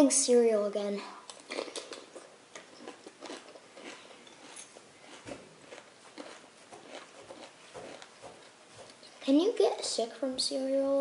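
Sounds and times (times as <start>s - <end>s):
child chewing cereal: 0.9s - 10.0s.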